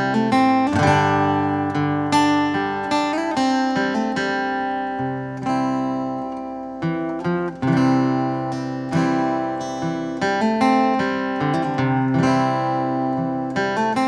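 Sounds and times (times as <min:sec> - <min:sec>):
solo acoustic guitar: 0:00.0 - 0:14.0.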